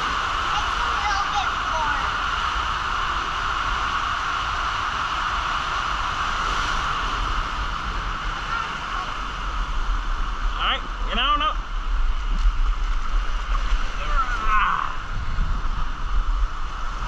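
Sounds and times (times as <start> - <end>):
water rushing under raft: 0.0 - 17.0.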